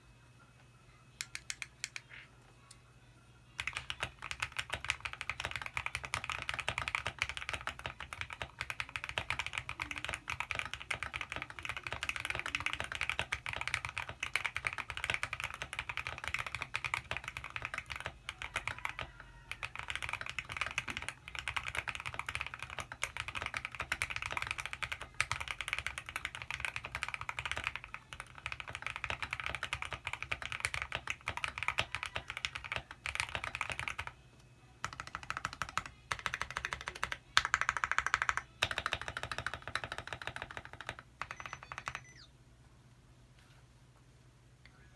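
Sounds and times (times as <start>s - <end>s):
fast typing on mechanical keyboard: 3.6s - 34.2s, 34.8s - 42.1s.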